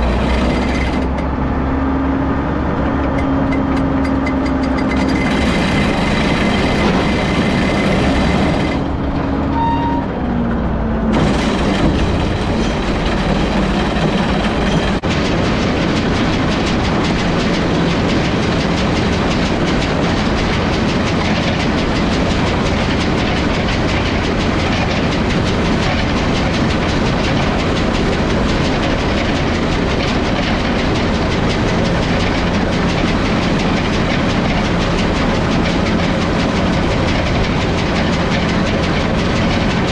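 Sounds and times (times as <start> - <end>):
tractor diesel engine under load: 0.0 - 39.9
baler rhythmic clatter: 3.1 - 9.2, 11.2 - 39.9.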